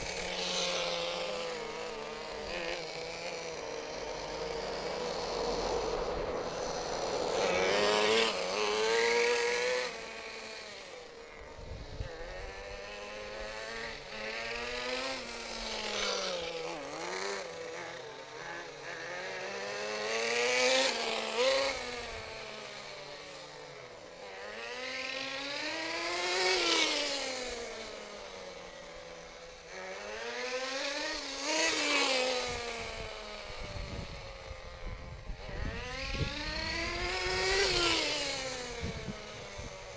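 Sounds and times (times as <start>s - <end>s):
rc truck nitro engine revving: 0.0s - 39.9s.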